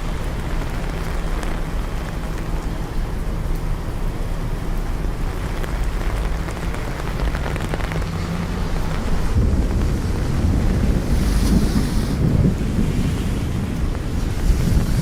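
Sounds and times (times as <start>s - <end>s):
low rumble: 0.0s - 15.0s
rain falling on street: 0.0s - 15.0s.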